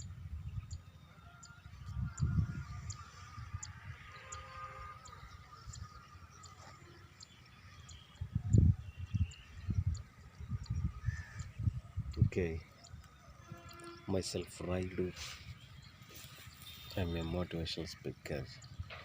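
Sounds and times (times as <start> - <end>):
wind rumble on microphone: 0.0 - 6.8, 7.7 - 17.6
distant bird calls: 0.0 - 19.0.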